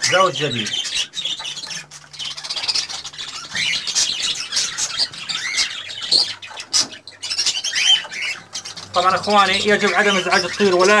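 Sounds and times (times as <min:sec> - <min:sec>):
cockatiels squawking and chirping: 0:00.0 - 0:11.0.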